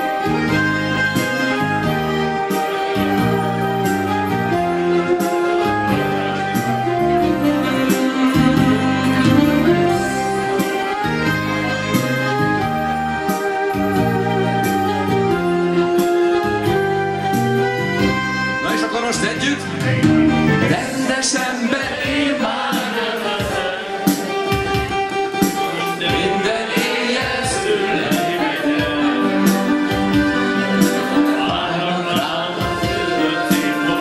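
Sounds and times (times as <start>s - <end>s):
live band playing dance music: 0.0s - 34.0s.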